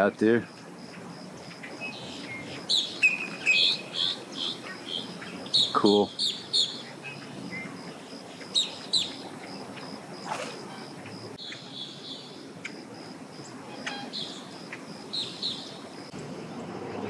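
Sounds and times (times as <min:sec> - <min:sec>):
birds chirping: 0:00.0 - 0:17.0
soft outdoor background noise: 0:00.0 - 0:17.0.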